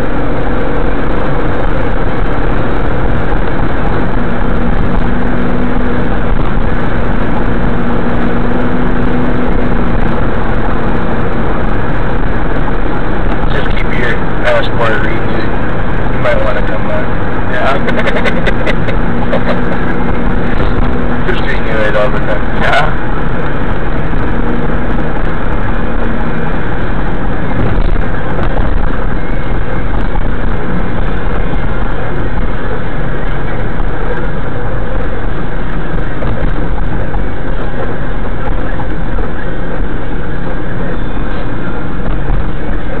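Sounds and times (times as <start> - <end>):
road and engine noise in cabin: 0.0 - 43.0.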